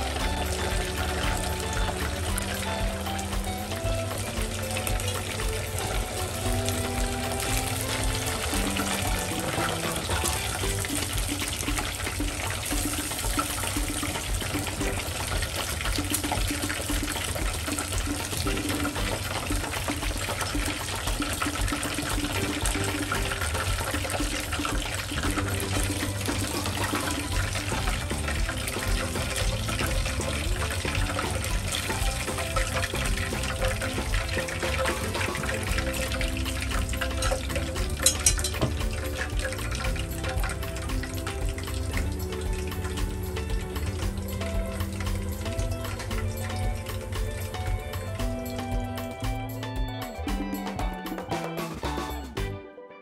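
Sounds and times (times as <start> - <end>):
chicken sizzling in hot oil: 0.0 - 48.7
background music: 0.0 - 53.0.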